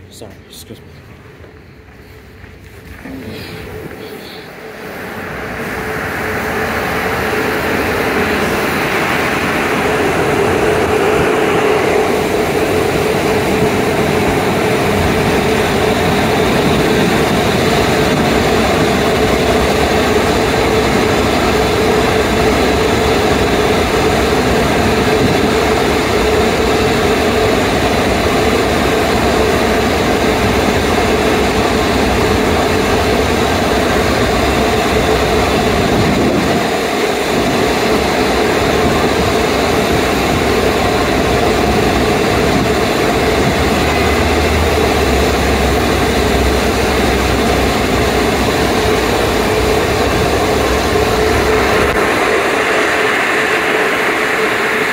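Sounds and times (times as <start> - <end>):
steady hum: 0.0 - 54.9
car wash machinery rushing: 1.2 - 54.9.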